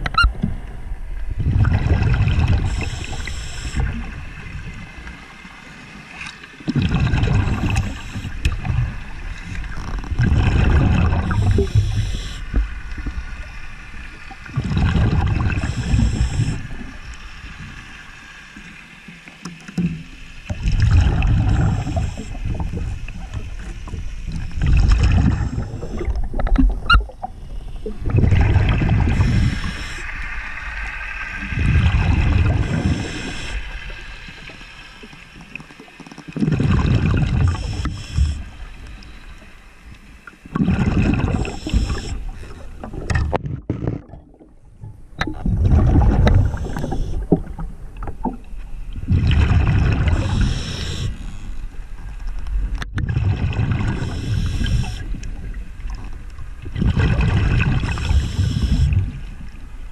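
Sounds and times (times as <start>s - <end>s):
underwater rushing water: 0.0s - 59.9s.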